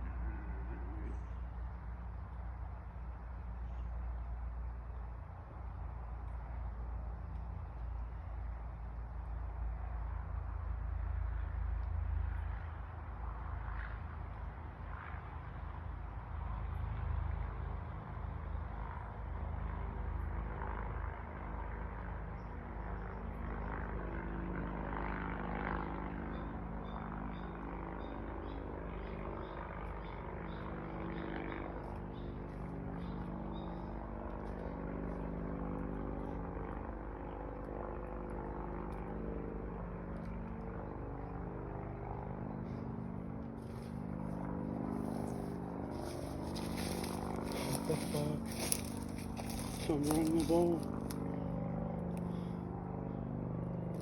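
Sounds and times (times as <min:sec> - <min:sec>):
engine droning: 0:00.0 - 0:20.3, 0:28.4 - 0:54.0.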